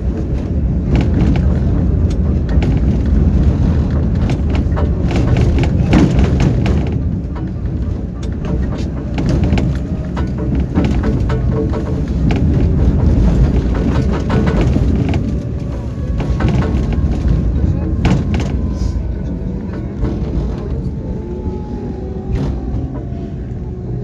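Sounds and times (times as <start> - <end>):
tram rumble: 0.0 - 24.0
wheels knocking and rattling: 0.0 - 24.0.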